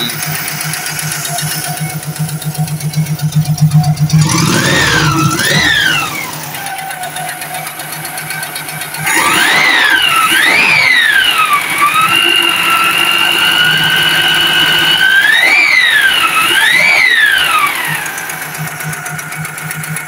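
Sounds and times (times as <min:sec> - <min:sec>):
air-cooled engine revving: 0:00.0 - 0:20.0.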